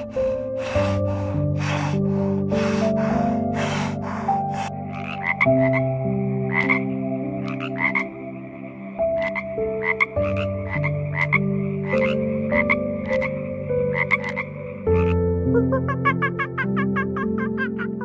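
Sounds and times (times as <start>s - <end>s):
frog croaking: 0.0s - 18.0s.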